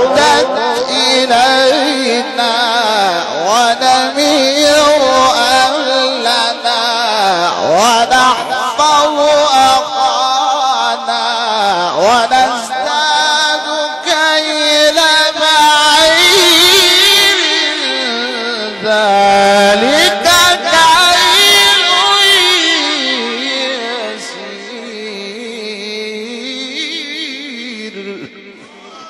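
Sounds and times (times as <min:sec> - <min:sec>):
man reciting melodically: 0:00.0 - 0:29.0.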